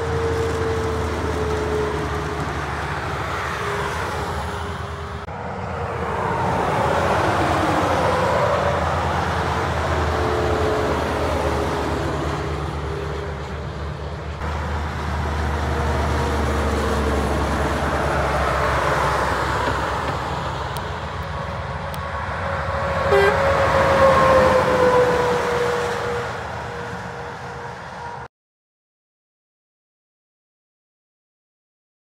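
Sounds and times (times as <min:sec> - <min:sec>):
truck engine rumble: 0:00.0 - 0:28.3
tyre and road noise: 0:00.0 - 0:28.3.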